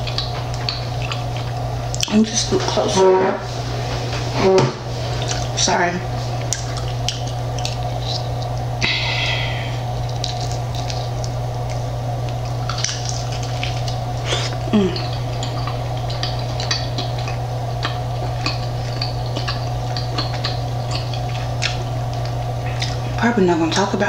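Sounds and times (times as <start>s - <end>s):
crunchy chewing: 0.0s - 2.5s, 5.0s - 5.6s, 6.2s - 23.2s
steady low hum: 0.0s - 24.0s.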